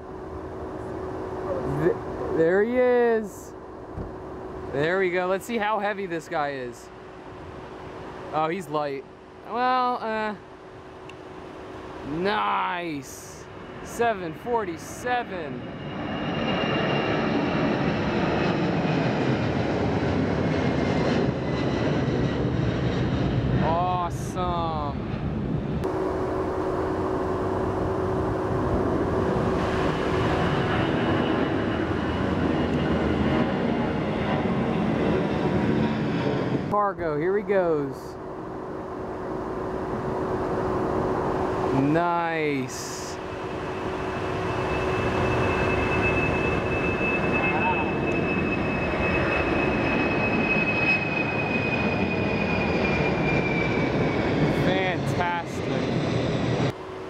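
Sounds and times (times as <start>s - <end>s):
high jet engine whine: 0.0s - 57.0s
jet engines rumbling: 0.0s - 57.0s.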